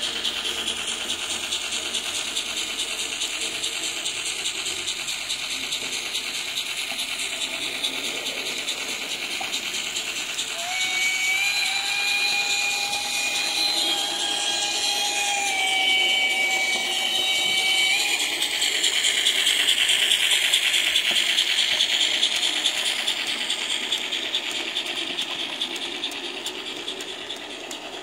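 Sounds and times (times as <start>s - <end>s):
model train motor whine: 0.0s - 28.0s
wheels rattling on track: 0.0s - 28.0s.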